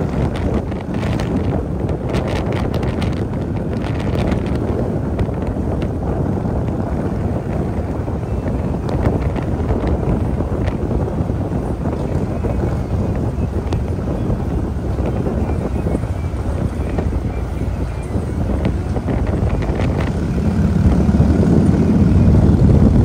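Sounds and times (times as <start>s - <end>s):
motorcycle engine rumble: 0.0s - 23.0s
wind buffeting the microphone: 0.0s - 23.0s.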